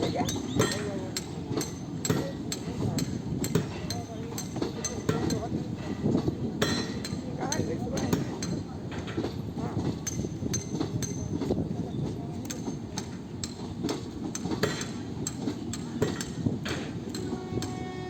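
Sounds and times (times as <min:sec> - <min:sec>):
murmur of indistinct voices: 0:00.0 - 0:18.0.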